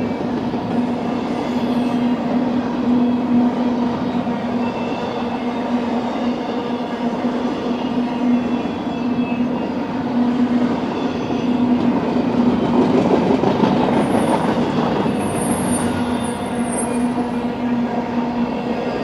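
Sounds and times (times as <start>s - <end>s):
train wheels rumbling and clattering: 0.0s - 8.8s, 9.5s - 19.0s.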